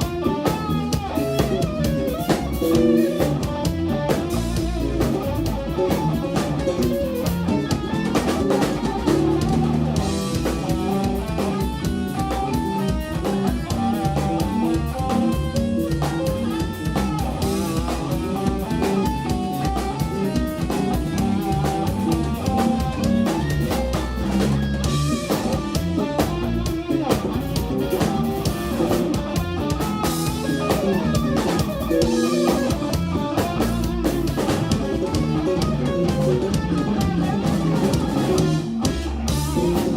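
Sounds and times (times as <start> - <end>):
bass guitar: 0.0 - 39.9
drumming: 0.0 - 39.9
fast guitar lines: 0.0 - 39.9.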